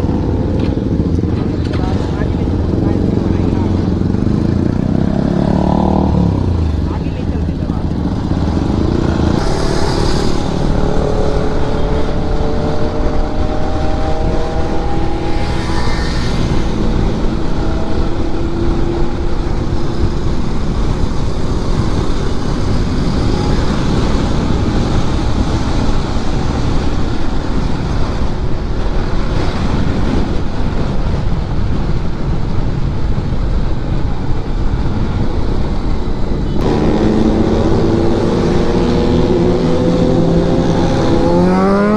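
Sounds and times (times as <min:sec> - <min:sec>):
motorcycle engine accelerating: 0:00.0 - 0:41.9
wind rushing on microphone: 0:00.0 - 0:41.9.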